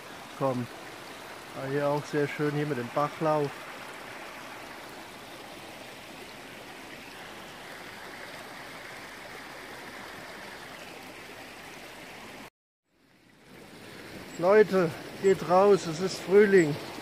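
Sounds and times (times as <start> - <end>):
brook running over stones: 0.0 - 17.0.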